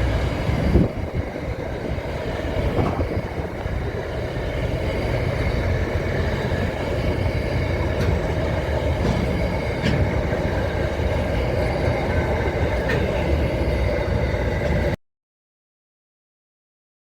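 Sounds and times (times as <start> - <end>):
faint rail clicks: 0.0 - 15.0
train rumbling on rails: 0.0 - 15.0.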